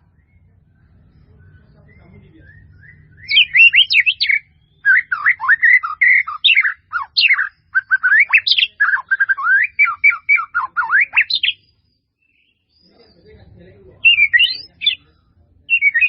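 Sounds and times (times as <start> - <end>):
songbird singing whistled trills: 0.0 - 16.0.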